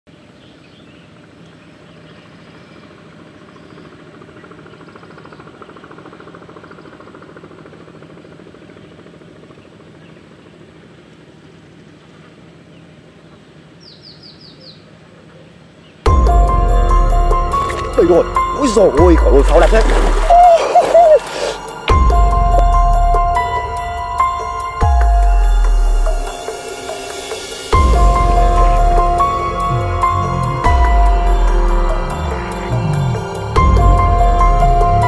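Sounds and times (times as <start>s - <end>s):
birds chirping: 0.1s - 7.7s, 11.8s - 35.0s
outdoor background noise: 0.1s - 35.0s.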